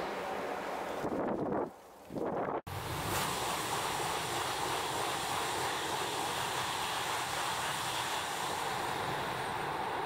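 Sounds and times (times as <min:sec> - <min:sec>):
high-speed train passing: 0:00.0 - 0:01.4, 0:02.7 - 0:10.0.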